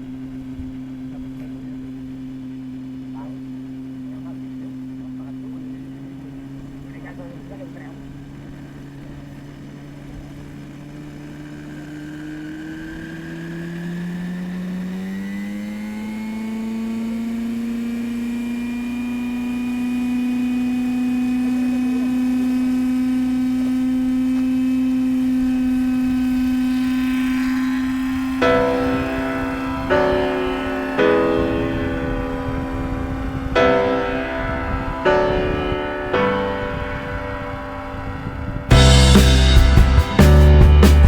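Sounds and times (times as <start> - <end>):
model helicopter engine revving: 0.0 - 34.9.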